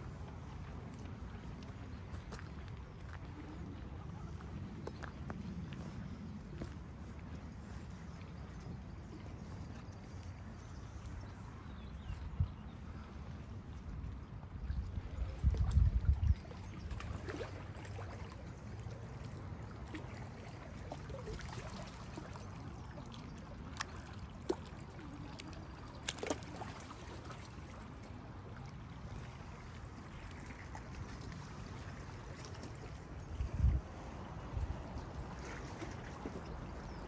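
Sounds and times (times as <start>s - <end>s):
water with low rumble: 0.0s - 37.0s.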